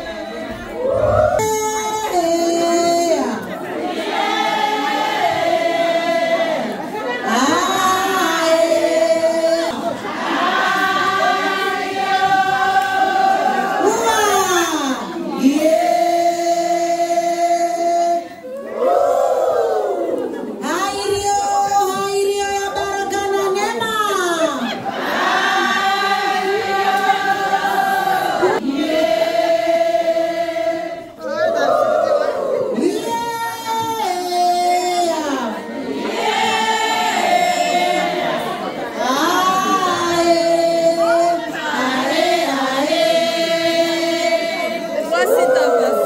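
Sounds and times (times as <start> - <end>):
women singing in unison: 0.0 - 23.8, 24.4 - 31.2, 32.4 - 46.0.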